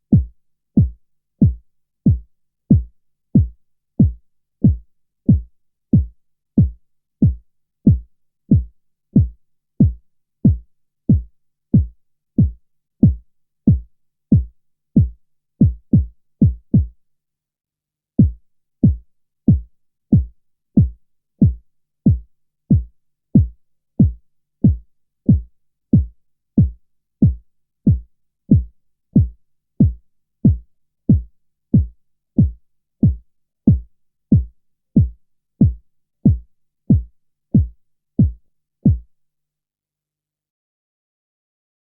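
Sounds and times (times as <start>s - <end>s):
deep kick drum thumps: 0.1s - 13.8s, 14.4s - 16.9s, 18.2s - 39.0s.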